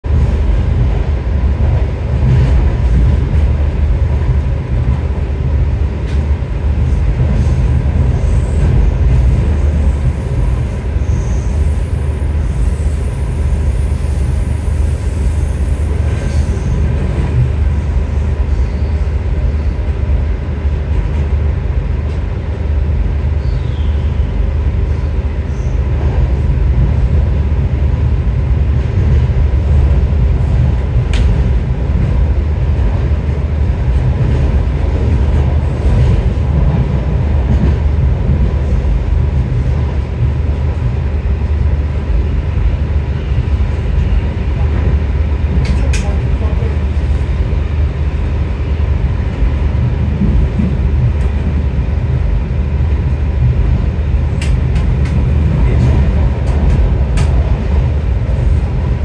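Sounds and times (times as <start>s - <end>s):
train wheels rumbling inside carriage: 0.0s - 59.0s.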